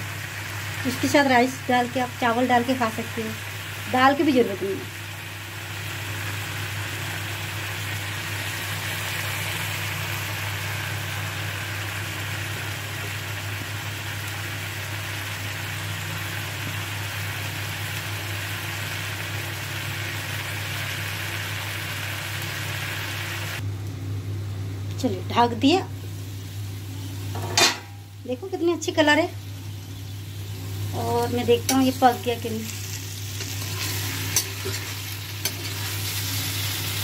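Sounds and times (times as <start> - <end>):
food sizzling in a pan: 0.0 - 23.6, 25.1 - 37.0.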